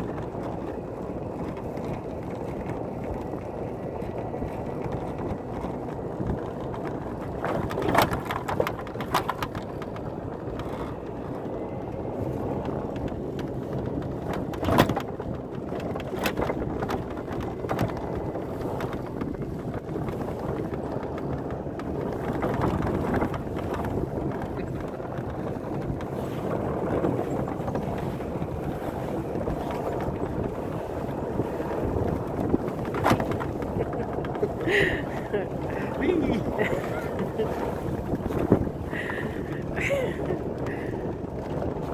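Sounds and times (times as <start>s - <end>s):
golf cart rumbling on snow: 0.0s - 41.9s.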